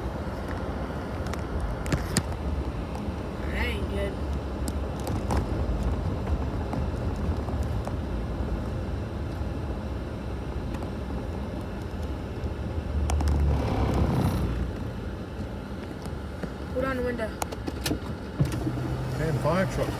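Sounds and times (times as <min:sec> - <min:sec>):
car road and engine rumble: 0:00.0 - 0:19.9.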